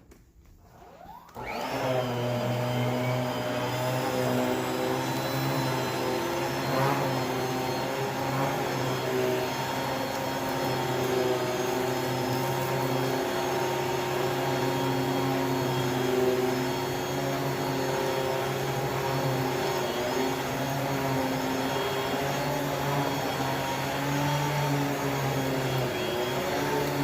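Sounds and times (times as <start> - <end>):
vacuum cleaner running: 0.6 - 27.0.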